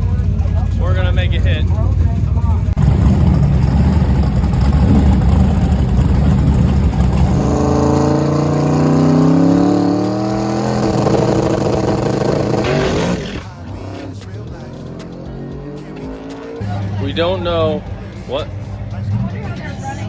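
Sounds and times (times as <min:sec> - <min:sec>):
car engine rumbling and accelerating: 0:00.0 - 0:20.0.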